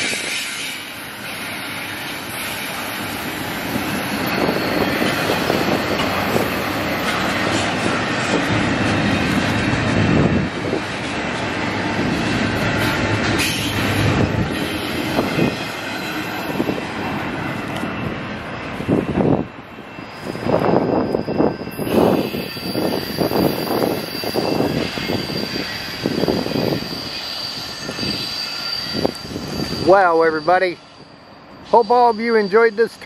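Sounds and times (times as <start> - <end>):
freight train wheels rumbling on rails: 0.0 - 33.0.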